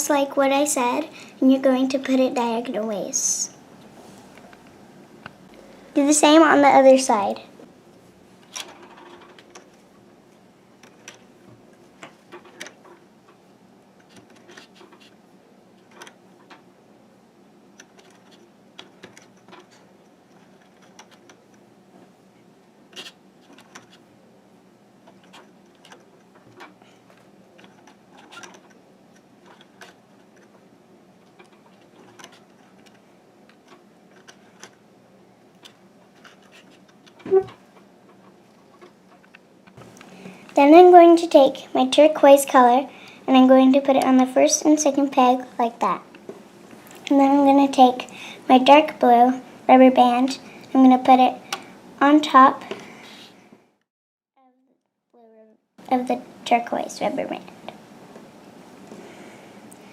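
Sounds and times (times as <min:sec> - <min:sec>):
faint hum: 0:00.0 - 0:53.8, 0:54.4 - 0:59.9.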